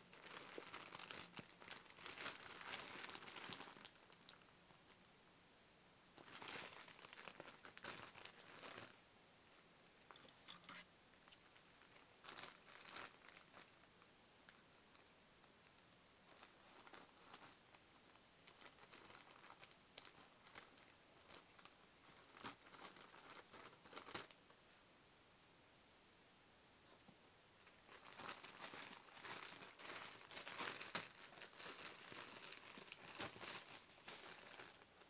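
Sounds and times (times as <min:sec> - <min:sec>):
plastic bag crinkling: 0:00.0 - 0:05.0, 0:06.2 - 0:09.0, 0:10.1 - 0:15.1, 0:15.7 - 0:24.5, 0:27.6 - 0:35.0.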